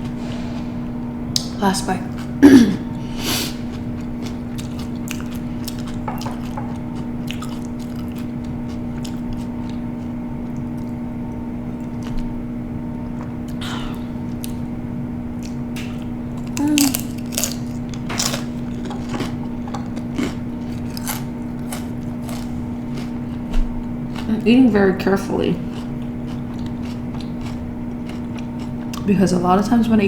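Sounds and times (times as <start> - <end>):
steady low hum: 0.0 - 30.0
chewing crunchy food: 3.5 - 14.7, 15.4 - 29.1.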